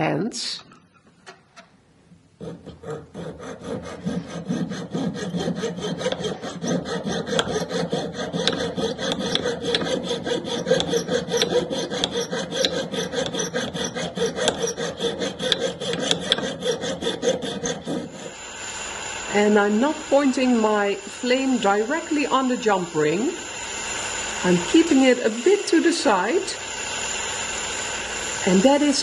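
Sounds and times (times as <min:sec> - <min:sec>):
saw rasping through metal wire: 0:02.4 - 0:29.0.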